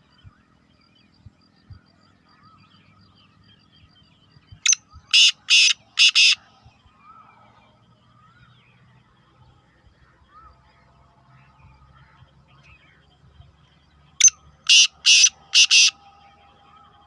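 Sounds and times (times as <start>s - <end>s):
bird calling with harsh notes: 0.0s - 8.8s, 9.8s - 17.0s.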